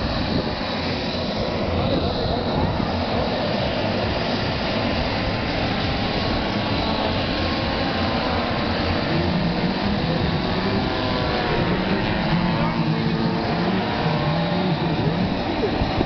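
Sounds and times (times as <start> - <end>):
model aeroplane motor whirring: 0.0 - 16.0.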